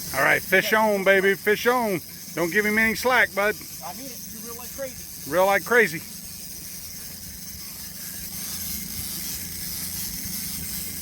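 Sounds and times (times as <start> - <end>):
boat motor running: 0.0 - 11.0
fishing reel cranking: 0.0 - 11.0.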